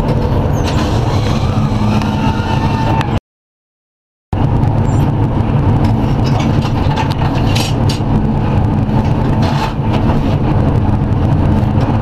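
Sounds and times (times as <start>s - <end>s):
engine running inside cab: 0.0s - 3.2s, 4.3s - 12.0s.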